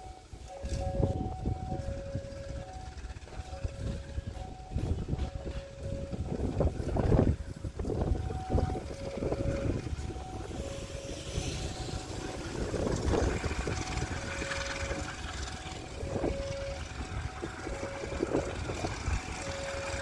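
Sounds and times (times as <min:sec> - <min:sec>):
diesel locomotive engine rumbling: 0:00.0 - 0:20.0.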